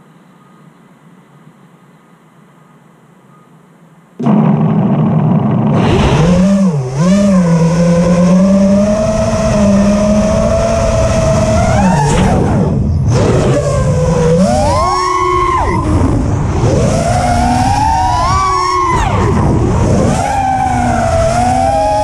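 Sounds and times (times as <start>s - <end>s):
quadcopter motors whining: 4.2s - 22.0s.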